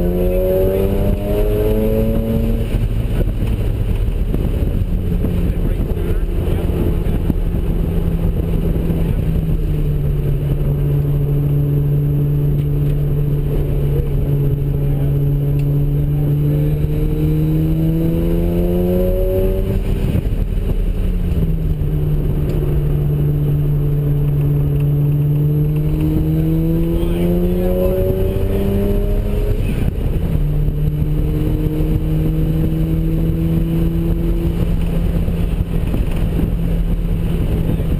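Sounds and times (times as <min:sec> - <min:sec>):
rotary engine revving: 0:00.0 - 0:37.9.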